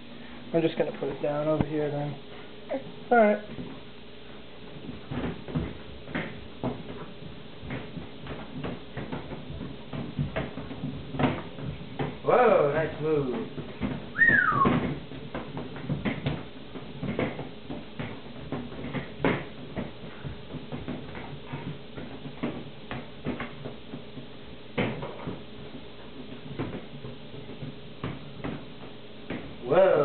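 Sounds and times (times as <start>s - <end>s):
soft thumps and knocks: 4.7s - 12.3s, 13.2s - 29.6s.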